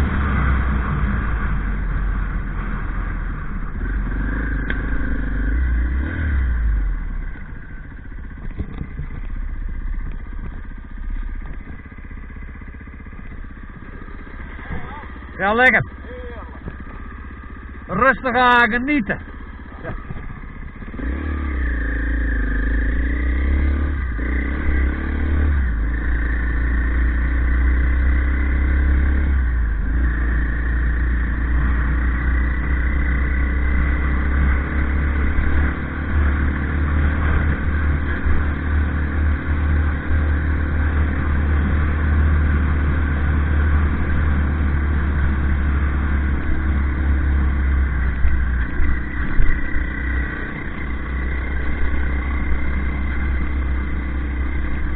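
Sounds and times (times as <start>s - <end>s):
motorcycle engine shifting gears: 0.0s - 54.9s.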